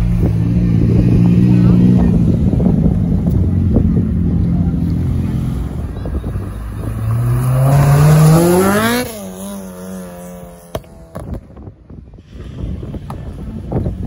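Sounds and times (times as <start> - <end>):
car engine revving accelerating: 0.0 - 11.4.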